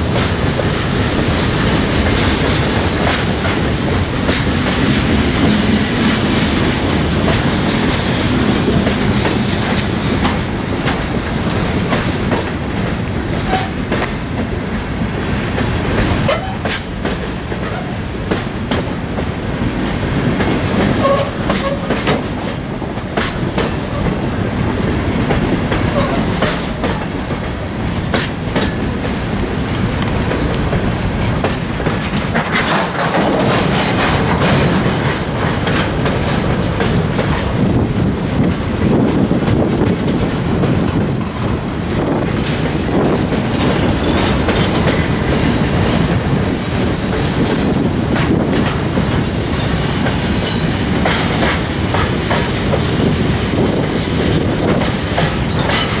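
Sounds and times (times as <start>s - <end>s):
steel wheels rumbling on rail: 0.0s - 56.0s
clicking over rail joints: 0.1s - 56.0s.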